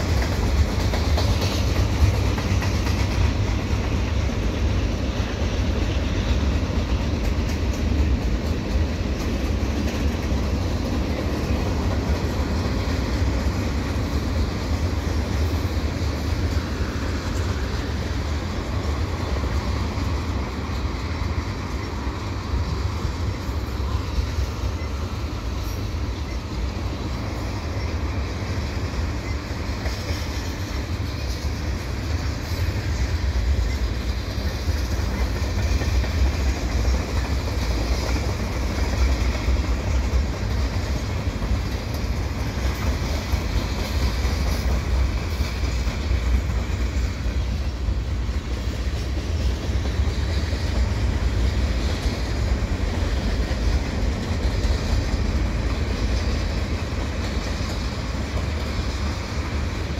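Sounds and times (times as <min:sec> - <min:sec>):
freight cars rolling on rails: 0:00.0 - 0:59.9.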